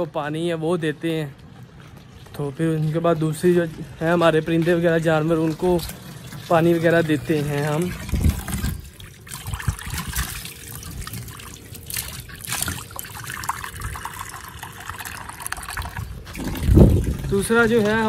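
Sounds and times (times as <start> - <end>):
water trickling into a bowl: 1.7 - 18.0.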